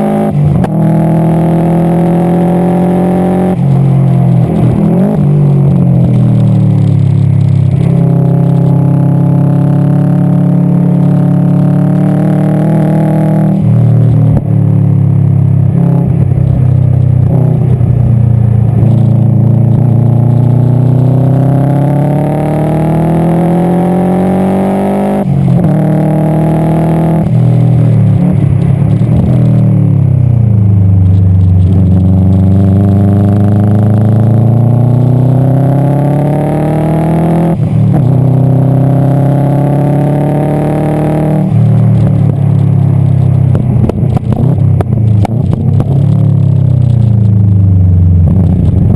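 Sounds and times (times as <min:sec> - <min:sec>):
turbocharged car engine accelerating: 0:00.0 - 0:48.9.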